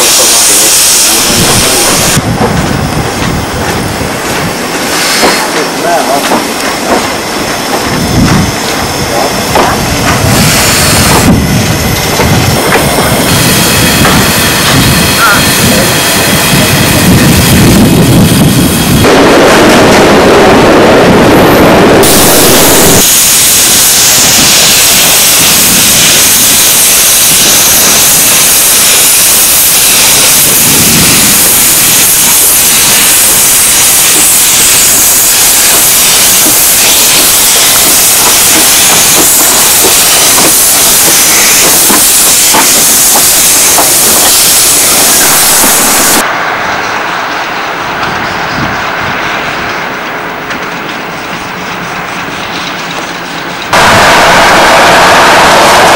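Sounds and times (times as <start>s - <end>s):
steam locomotive hissing steam: 0.0s - 2.3s, 3.3s - 19.1s, 21.6s - 46.6s, 51.6s - 55.9s.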